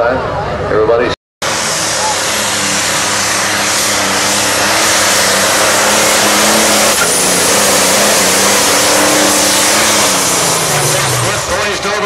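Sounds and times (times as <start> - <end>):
tractor engine running flat out: 1.4 - 12.0.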